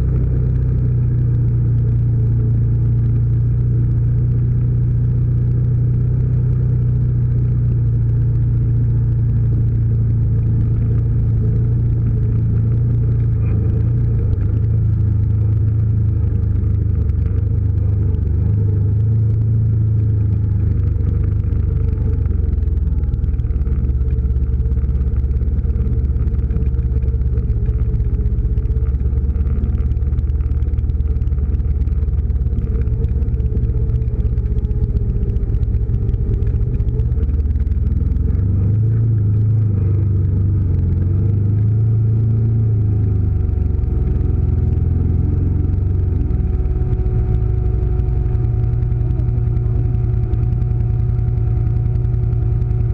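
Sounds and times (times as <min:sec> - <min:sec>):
atv engine droning: 0:00.0 - 0:52.9.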